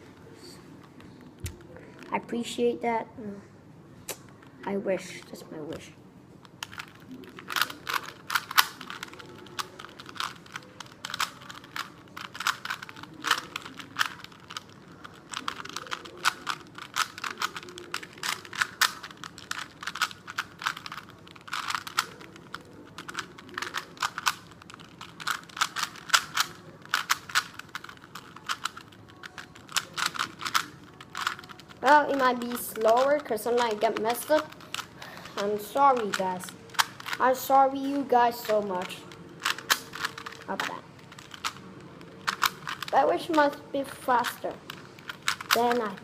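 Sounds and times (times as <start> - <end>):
plastic puzzle cube clicking: 6.5 - 43.4, 44.1 - 46.0.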